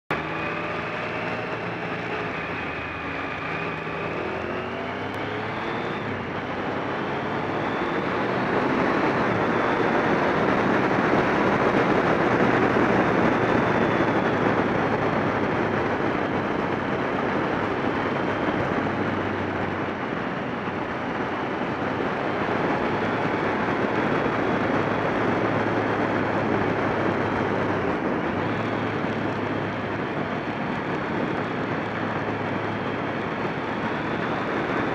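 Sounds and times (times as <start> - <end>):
motorcycle engine accelerating: 0.1 - 34.9
wind rushing on microphone: 0.1 - 34.9.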